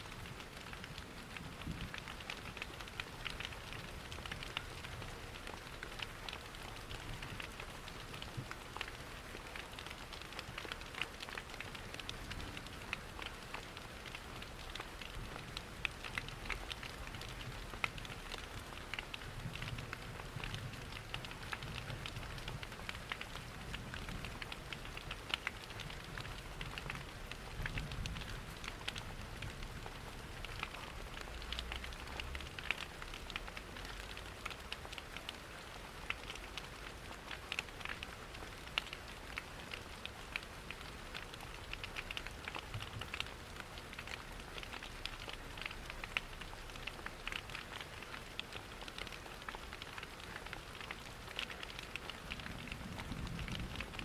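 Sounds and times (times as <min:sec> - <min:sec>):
rain pattering against windows: 0:00.0 - 0:54.0
wood fire crackling: 0:00.2 - 0:54.0.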